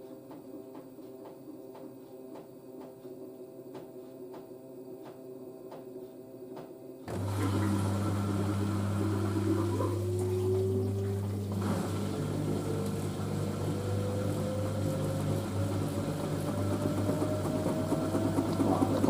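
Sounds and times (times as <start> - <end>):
washing machine hum: 0.0 - 19.0
rising drum motor whine: 0.6 - 19.0.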